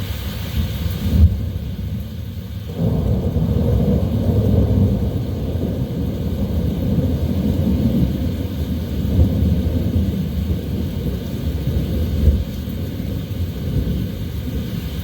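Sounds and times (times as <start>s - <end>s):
deep wind rumble: 0.0s - 15.0s
faint rain hiss: 0.0s - 15.0s.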